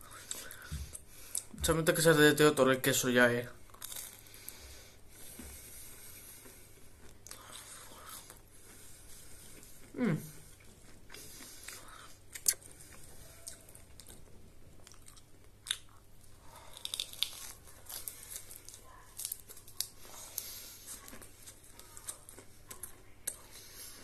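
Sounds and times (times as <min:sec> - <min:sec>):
person chewing lettuce: 0:03.6 - 0:24.0.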